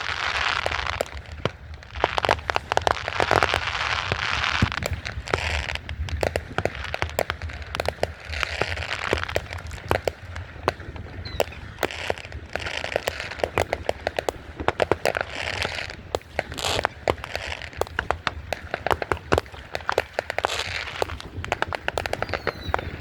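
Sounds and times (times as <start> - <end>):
fireworks cracking and popping: 0.0 - 23.0
fireworks crackling hiss: 0.0 - 23.0.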